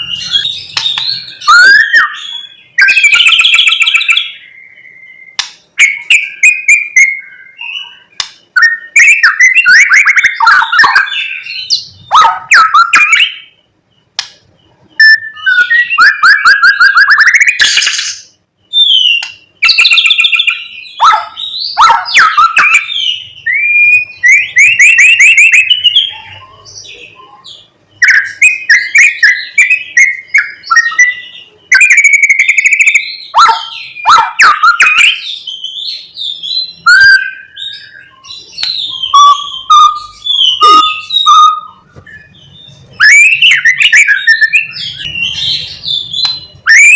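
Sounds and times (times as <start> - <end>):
bird singing varied phrases: 0.0 - 46.9.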